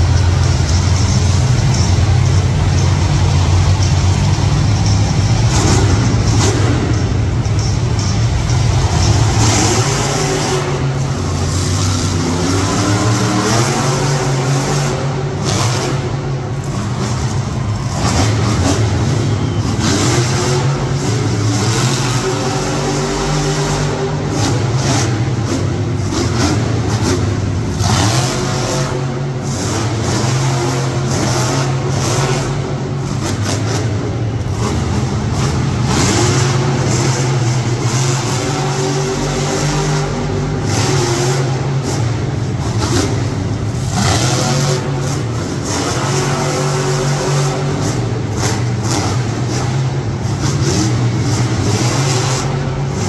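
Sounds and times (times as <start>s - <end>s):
motorsport engine revving: 0.0s - 53.0s
steady low drone: 0.0s - 53.0s.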